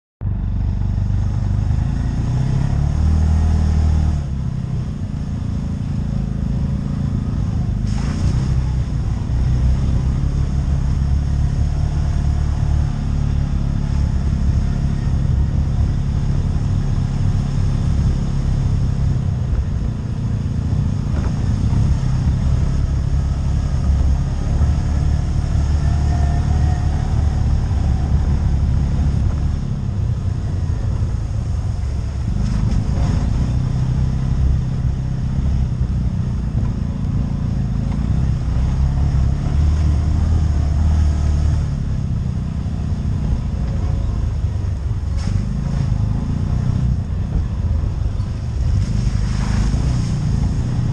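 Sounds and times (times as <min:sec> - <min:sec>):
quad bike engine droning: 0:00.2 - 0:50.9.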